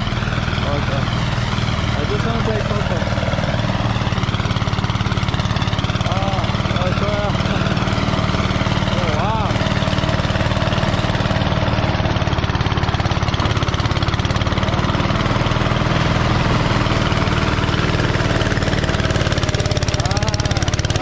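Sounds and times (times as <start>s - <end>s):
small engine chugging: 0.0s - 21.0s.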